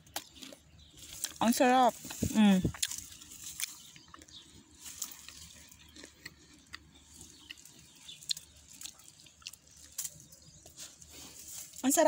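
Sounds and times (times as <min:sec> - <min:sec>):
chewing crunchy pear: 0:00.0 - 0:12.0.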